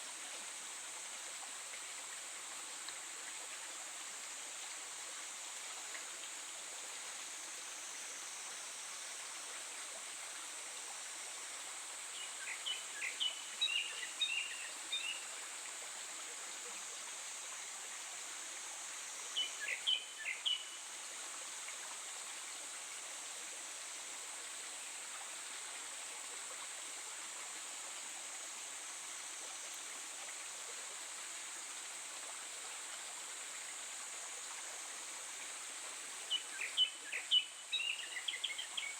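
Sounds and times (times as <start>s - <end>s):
running water hiss: 0.0s - 38.9s.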